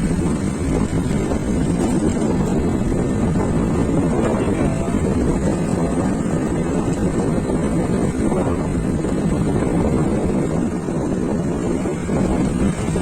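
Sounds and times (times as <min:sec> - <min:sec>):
scooter engine running: 0:00.0 - 0:13.0
wind rumble on microphone: 0:00.0 - 0:13.0.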